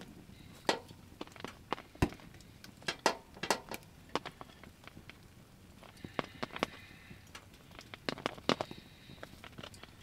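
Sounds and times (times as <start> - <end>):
firewood crackling and popping: 0.0 - 10.0.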